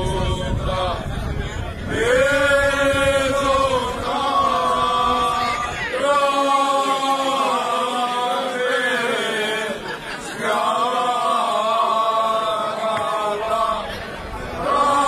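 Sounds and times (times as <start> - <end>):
men singing unaccompanied: 0.0 - 14.0, 14.6 - 15.0.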